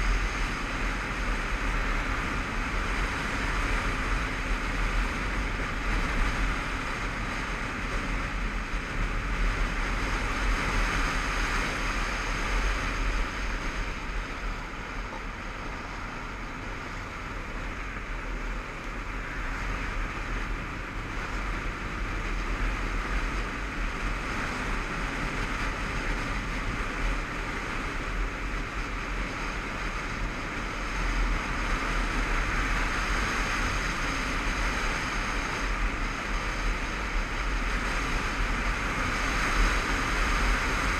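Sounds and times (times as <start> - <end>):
wind rushing over camera: 0.0 - 40.9.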